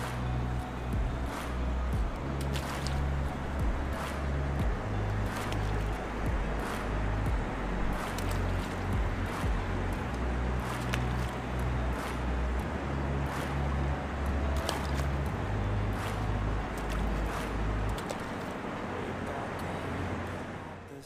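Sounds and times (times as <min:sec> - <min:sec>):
deep bass notes: 0:00.0 - 0:18.1
steady hiss: 0:00.0 - 0:21.0.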